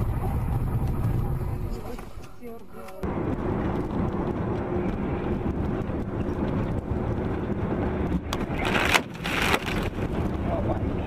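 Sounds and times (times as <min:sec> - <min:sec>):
road and engine drone in cab: 0:00.0 - 0:11.0.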